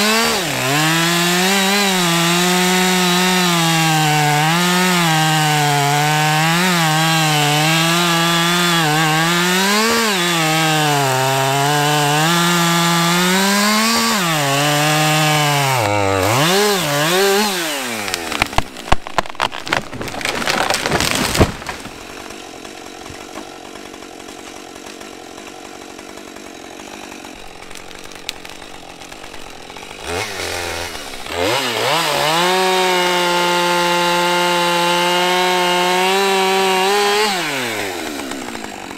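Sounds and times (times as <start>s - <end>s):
chainsaw cutting: 0.0s - 38.9s
tree cracking and thudding: 0.1s - 38.9s.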